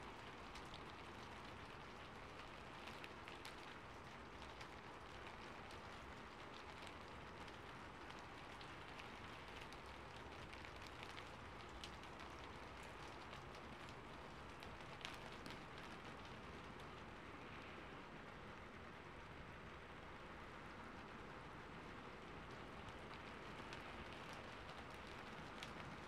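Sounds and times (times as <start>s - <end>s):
raindrop ticks: 0.0s - 26.0s
soft steady rain: 0.0s - 26.0s.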